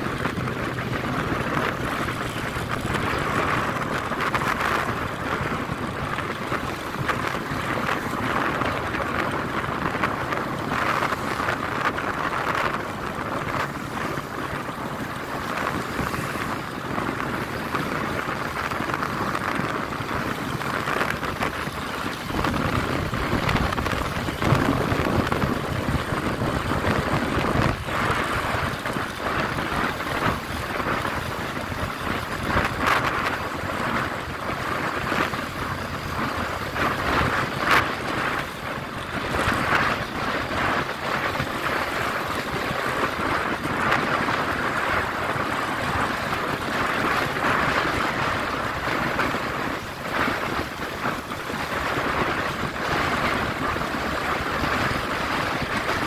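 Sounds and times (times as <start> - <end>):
vehicle running and road noise: 0.0 - 56.0
wind buffeting microphone: 0.0 - 56.0.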